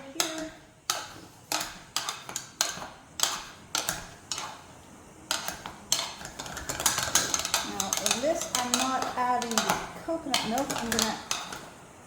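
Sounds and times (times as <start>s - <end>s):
potato masher clanking on pot: 0.0s - 11.8s.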